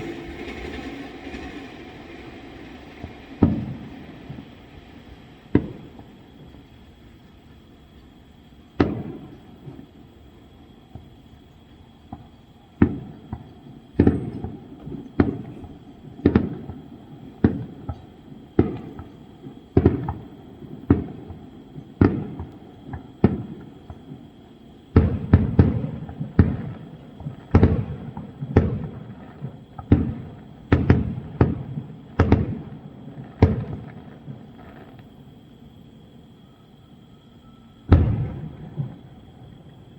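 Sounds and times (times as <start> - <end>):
fireworks bursting: 0.0 - 36.4, 37.8 - 39.9.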